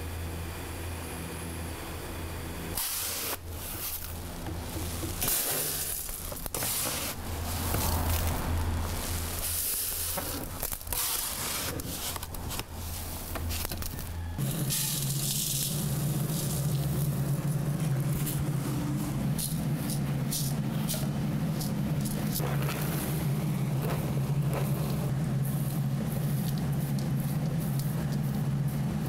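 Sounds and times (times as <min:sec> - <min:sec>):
steady low hum: 0:00.0 - 0:29.0
salt scratching against metal: 0:02.8 - 0:28.8
salt grains rattling and scraping: 0:02.8 - 0:29.0.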